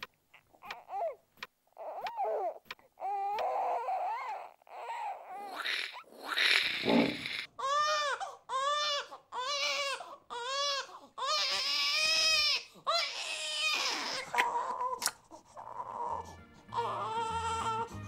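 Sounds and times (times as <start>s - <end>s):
baby crying: 0.3s - 18.0s.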